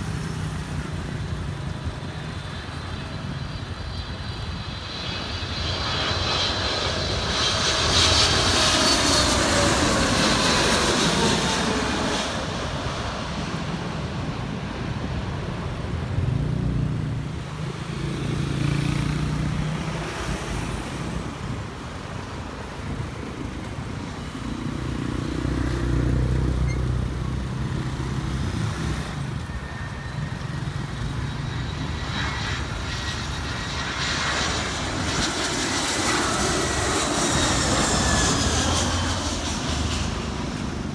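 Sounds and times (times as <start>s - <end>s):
jet airliner passing overhead: 0.0s - 40.9s
second jet approaching: 0.2s - 40.9s.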